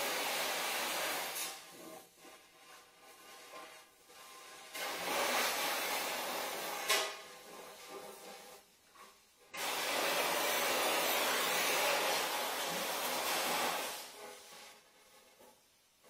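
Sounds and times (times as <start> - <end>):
gas torch flame hissing: 0.0 - 2.0, 2.6 - 8.6, 9.5 - 15.2.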